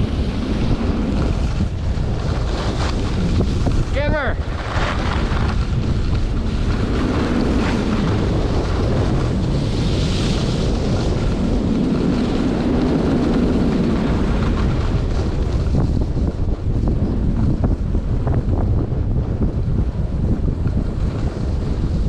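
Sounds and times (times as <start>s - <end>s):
skis sliding over snow: 0.0s - 22.0s
wind buffeting microphone: 0.0s - 22.0s.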